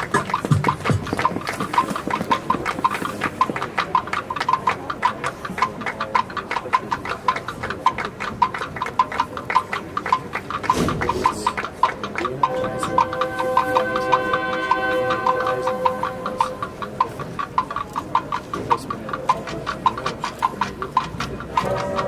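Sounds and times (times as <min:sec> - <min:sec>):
marching band percussion taps: 0:00.0 - 0:22.0.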